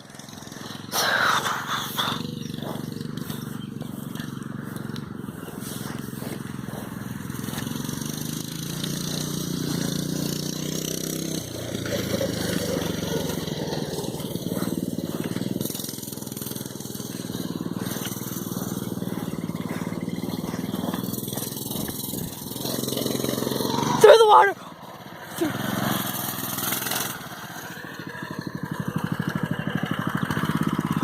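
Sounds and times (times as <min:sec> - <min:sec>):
small engine revving: 0:00.0 - 0:31.0.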